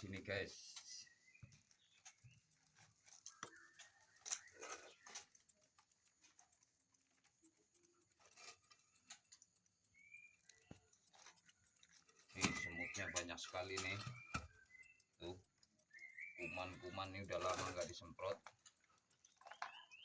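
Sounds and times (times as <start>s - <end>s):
hand sprayer clicks and hisses: 0.0s - 20.0s.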